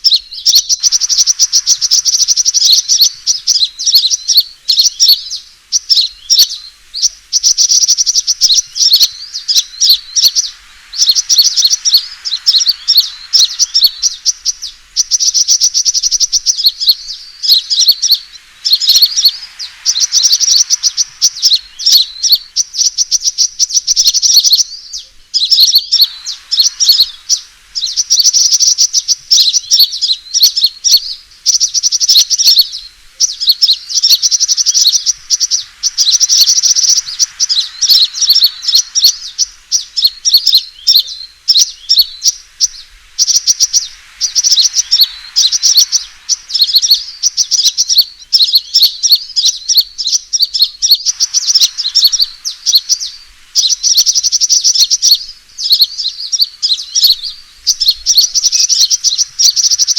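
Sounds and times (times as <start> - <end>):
sunbird chattering trills: 0.0 - 59.9.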